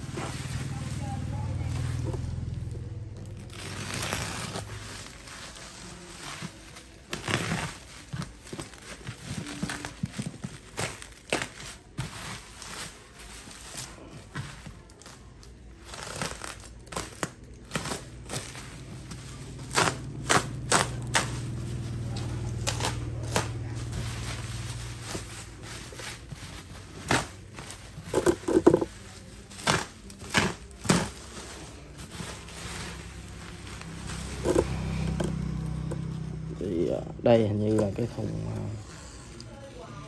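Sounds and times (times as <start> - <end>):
bubble wrap crackling: 0.0 - 39.7.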